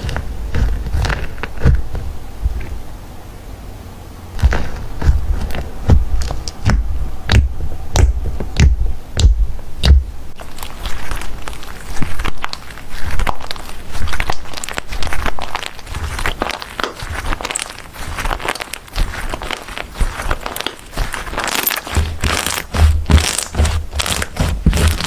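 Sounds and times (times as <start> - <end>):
slime squished by hand: 4.4 - 25.0.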